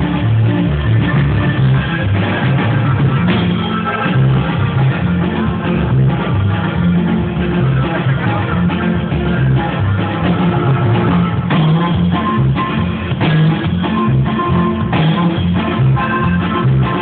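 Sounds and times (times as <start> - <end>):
strummed guitar: 0.0 - 17.0
walking bass line: 0.0 - 17.0.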